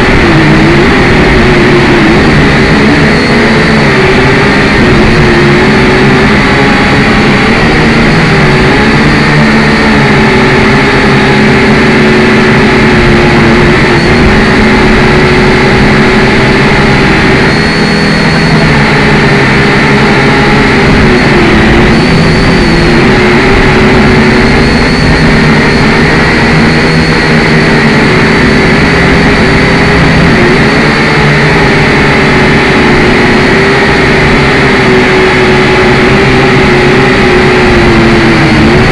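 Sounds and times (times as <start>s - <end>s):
toy drone motors whining: 0.0s - 38.9s.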